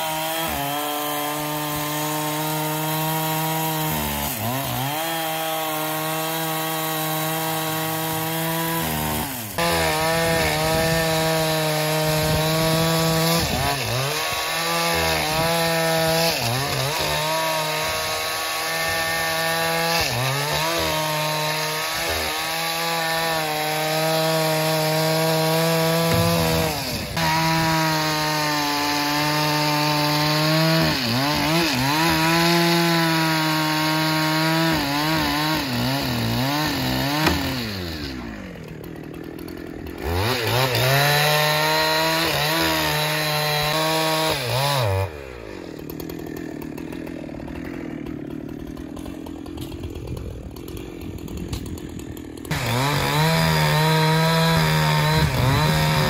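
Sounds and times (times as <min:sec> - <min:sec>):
sawmill saw cutting timber: 0:00.0 - 0:56.0.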